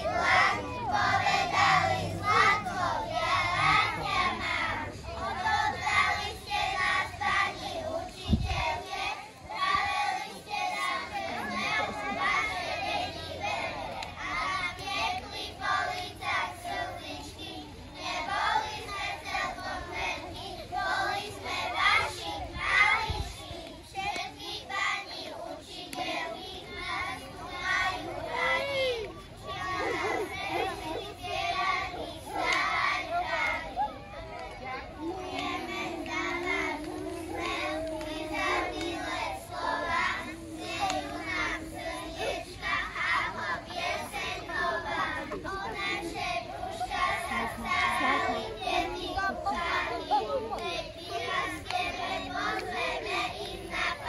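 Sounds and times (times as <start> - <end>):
children singing together: 0.0 - 54.0.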